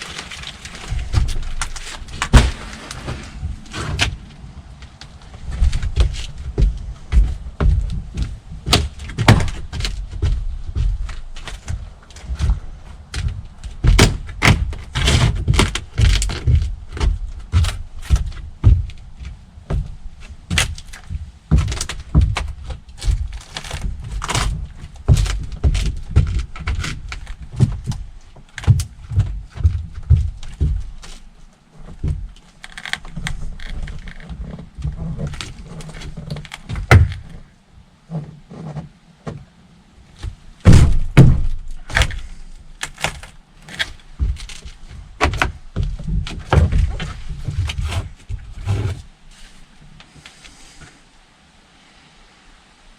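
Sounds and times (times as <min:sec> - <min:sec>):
knocks and thunks: 0:00.0 - 0:04.3, 0:05.4 - 0:32.4, 0:33.1 - 0:37.4, 0:40.2 - 0:42.2, 0:42.9 - 0:49.0.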